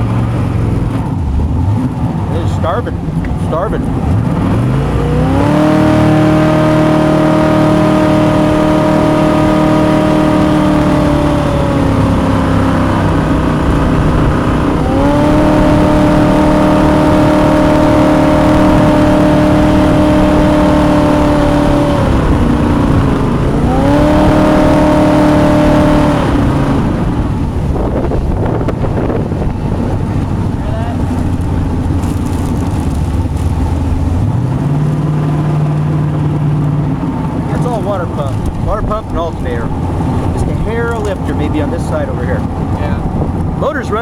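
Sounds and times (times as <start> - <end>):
boat engine revving: 0.0 - 44.0.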